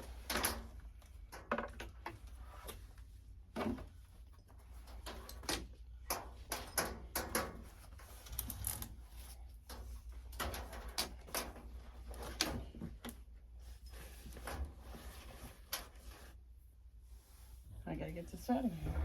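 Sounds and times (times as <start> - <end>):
objects handled clicking and rustling: 0.0 - 16.4.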